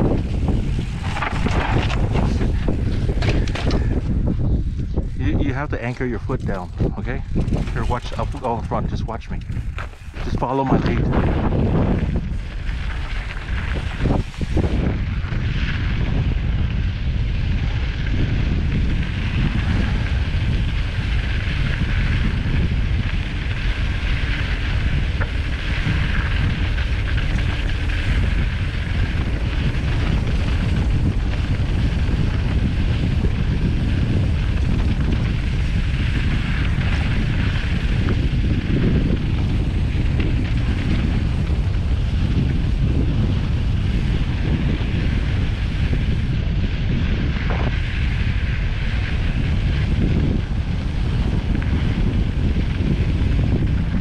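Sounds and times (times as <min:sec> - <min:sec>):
tyres crunching on loose gravel: 0:00.0 - 0:54.0
wind rushing over microphone: 0:00.0 - 0:54.0.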